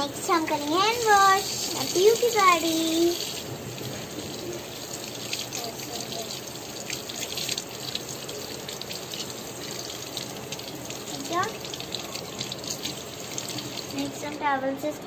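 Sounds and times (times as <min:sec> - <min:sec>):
tap water running into basin: 0:00.0 - 0:14.6.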